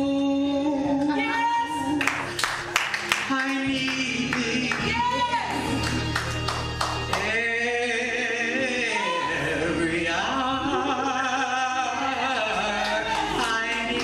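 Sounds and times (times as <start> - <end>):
gospel singing: 0.0 - 14.0.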